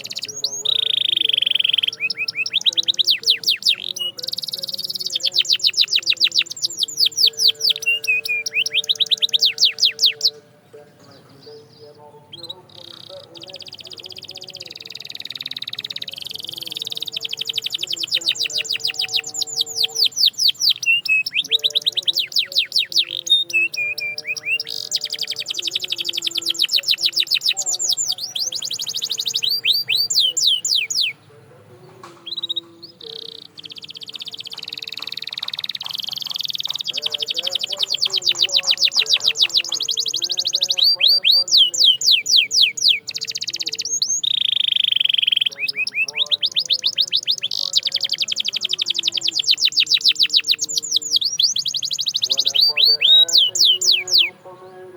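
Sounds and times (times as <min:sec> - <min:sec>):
canary trilling: 0:00.0 - 0:54.9.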